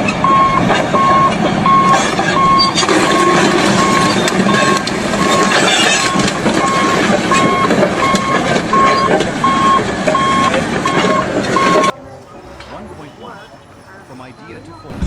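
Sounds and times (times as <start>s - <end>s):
reversing alarm beeping: 0.0s - 15.0s
vehicle engine running: 0.0s - 15.0s.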